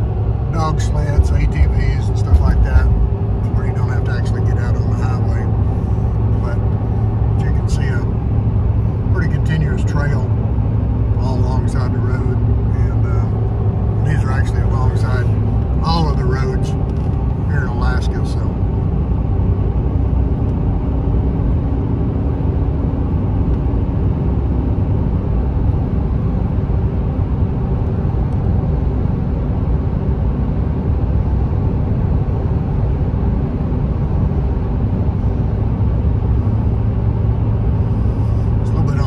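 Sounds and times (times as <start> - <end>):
vehicle engine and road rumble: 0.0 - 39.0.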